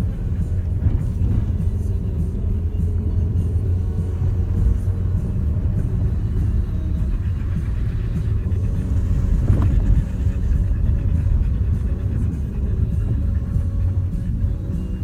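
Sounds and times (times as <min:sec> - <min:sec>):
engine and tyres over rough ground: 0:00.0 - 0:15.0.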